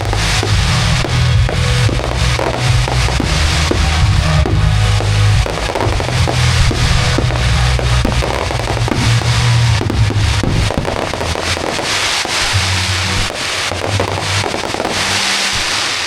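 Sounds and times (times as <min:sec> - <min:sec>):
fireworks bursting and crackling: 0:00.0 - 0:16.0
music over loudspeakers: 0:00.0 - 0:16.0.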